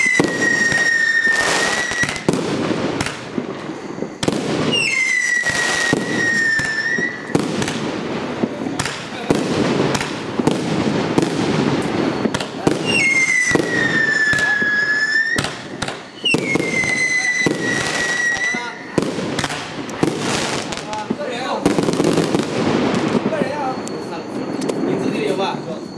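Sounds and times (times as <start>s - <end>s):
fireworks shots: 0.0s - 25.5s
high firework whistle: 0.0s - 25.9s.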